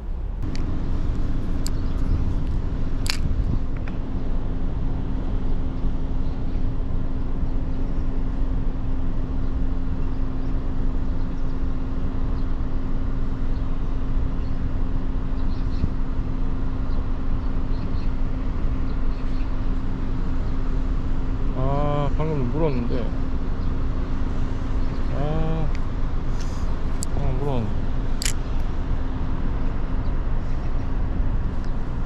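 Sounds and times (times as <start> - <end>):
faint constant hum: 0.0 - 32.0.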